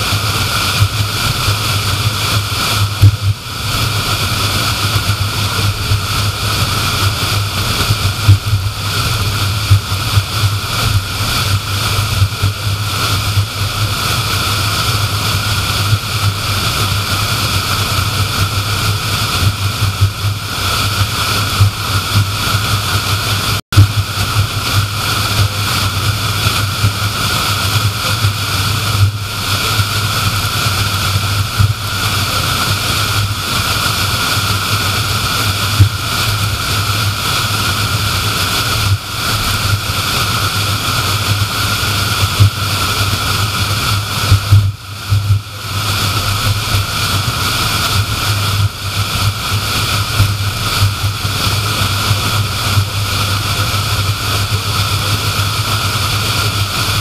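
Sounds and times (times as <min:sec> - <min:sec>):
constant low hum: 0:00.0 - 0:57.0
road and tyre noise: 0:00.0 - 0:57.0.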